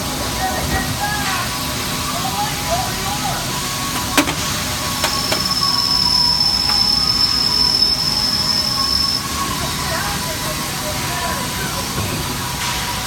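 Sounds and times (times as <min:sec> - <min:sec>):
high-pitched whine: 0:00.0 - 0:13.0
steady machine hum: 0:00.0 - 0:13.0.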